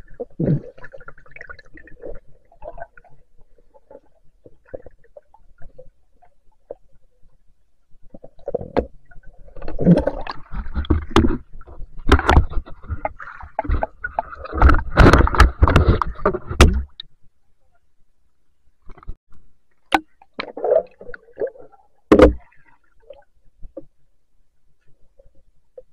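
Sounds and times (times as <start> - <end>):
water splashing and sloshing: 0.0 - 17.8, 18.8 - 25.9.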